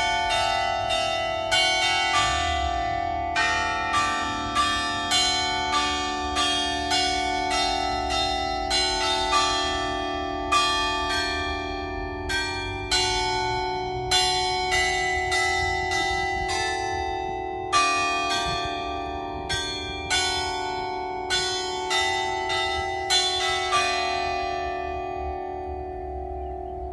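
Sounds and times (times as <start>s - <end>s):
church bell ringing: 0.0s - 26.9s.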